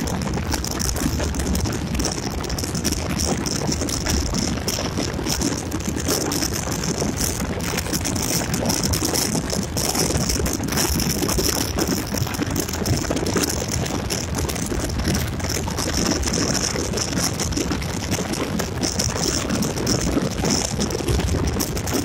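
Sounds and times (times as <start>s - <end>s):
crackling rattle: 0.0s - 22.0s
wind and road noise: 0.0s - 22.0s.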